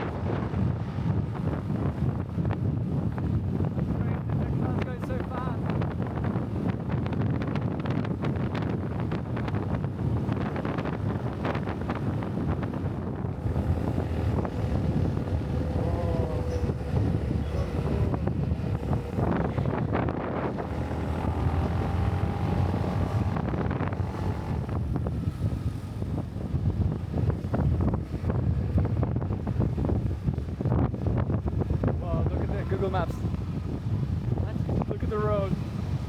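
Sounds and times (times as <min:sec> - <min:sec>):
wind buffeting microphone: 0:00.0 - 0:36.0
motorbike engine rumble: 0:05.6 - 0:36.0.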